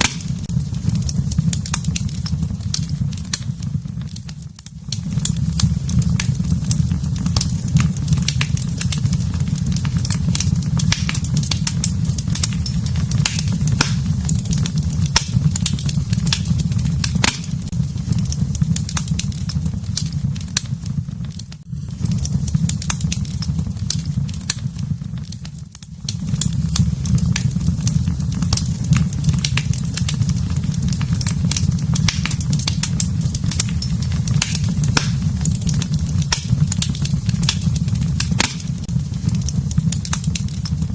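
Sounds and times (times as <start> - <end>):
fire crackling and popping: 0.0 - 40.9
wood fire rumbling: 0.0 - 40.9.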